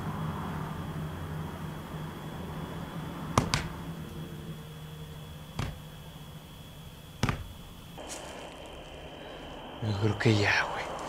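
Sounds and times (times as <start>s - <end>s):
steady low hum and hiss: 0.0s - 11.0s.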